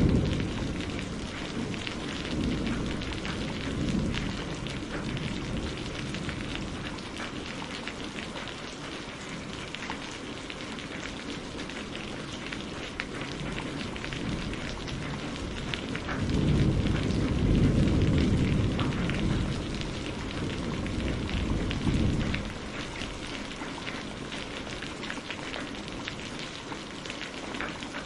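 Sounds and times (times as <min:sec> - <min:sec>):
low rumble of thunder: 0:00.0 - 0:08.6, 0:11.2 - 0:26.5
rain on a greenhouse roof: 0:00.0 - 0:28.0.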